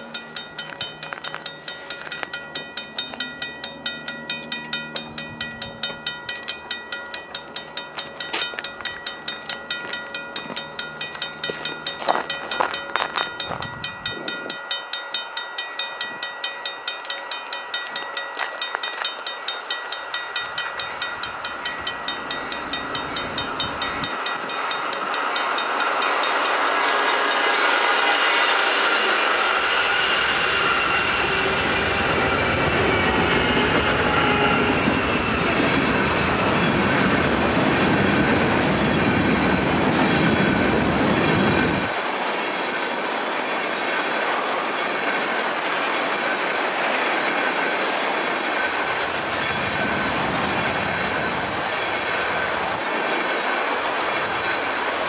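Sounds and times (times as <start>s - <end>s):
freight train approaching: 0.0s - 55.0s.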